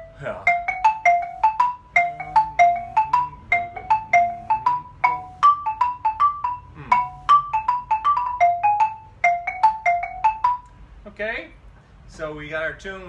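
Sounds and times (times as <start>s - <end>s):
xylophone notes: 0.0s - 10.8s.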